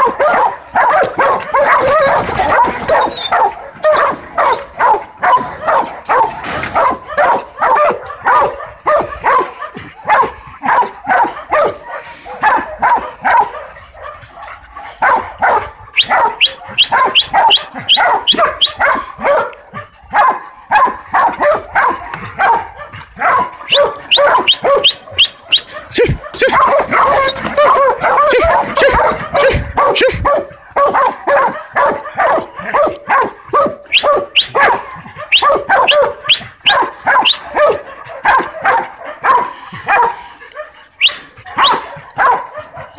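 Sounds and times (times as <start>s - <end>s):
dogs barking and yipping: 0.0s - 42.9s.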